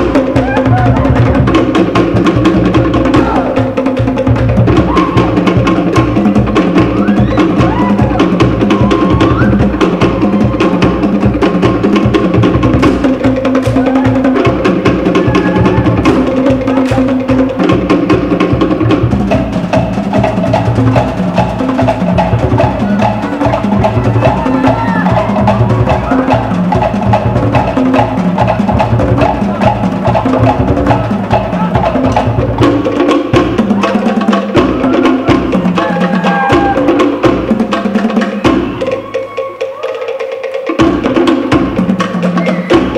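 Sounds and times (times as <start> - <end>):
deep skin drum: 0.0 - 42.9.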